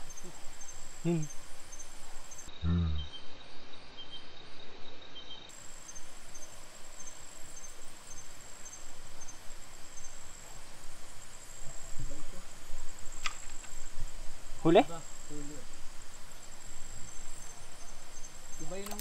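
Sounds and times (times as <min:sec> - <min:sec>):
steady hiss: 0:00.0 - 0:02.5, 0:05.5 - 0:19.0
insects trilling: 0:00.0 - 0:04.1, 0:05.2 - 0:19.0
short high insect chirps: 0:00.0 - 0:12.2, 0:12.8 - 0:19.0.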